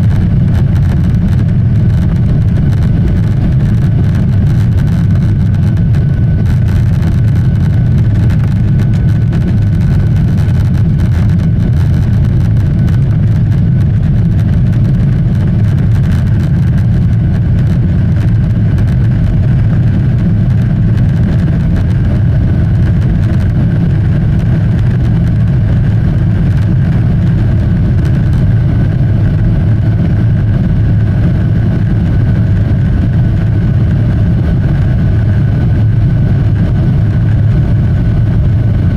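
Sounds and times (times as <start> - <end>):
faint steady whine: 0.0 - 38.9
jet engine cabin rumble: 0.0 - 38.9.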